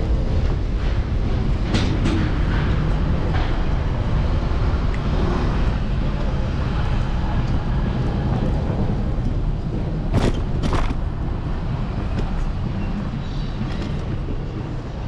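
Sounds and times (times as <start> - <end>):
road rumble: 0.0 - 15.0
street traffic: 0.0 - 15.0
wind noise: 0.0 - 15.0.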